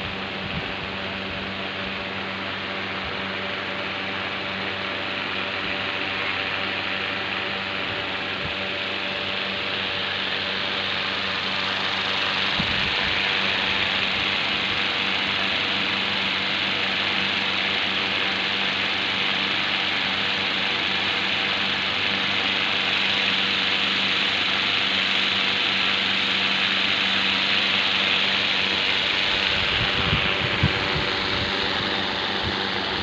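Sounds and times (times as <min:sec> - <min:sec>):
constant hiss: 0:00.0 - 0:33.0
machine hum: 0:00.0 - 0:33.0.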